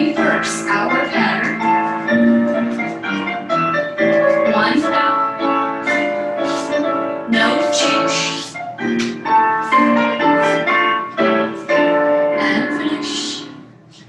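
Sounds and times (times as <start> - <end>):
solo piano chords: 0.0 - 13.9.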